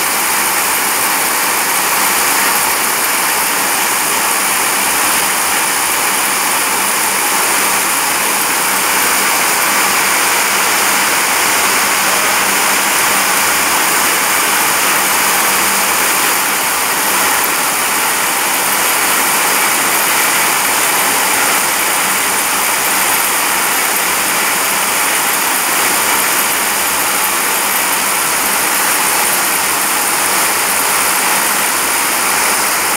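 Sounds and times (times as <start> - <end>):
yarn machine spindles whirring: 0.0 - 32.9.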